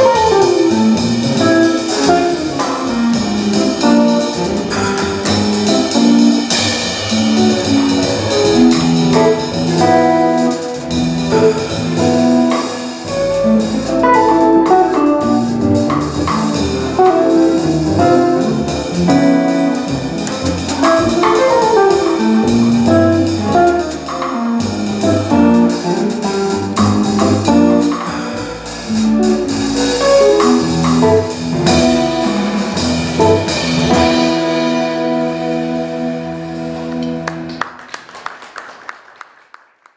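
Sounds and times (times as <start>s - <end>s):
drum kit with cymbals: 0.0s - 37.6s
electric guitar melody: 0.0s - 37.6s
upright double bass: 0.0s - 37.7s.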